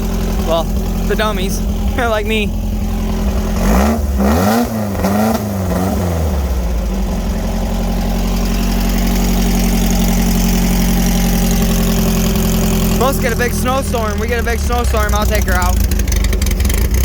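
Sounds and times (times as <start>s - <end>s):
engine revving and idling: 0.0s - 17.0s.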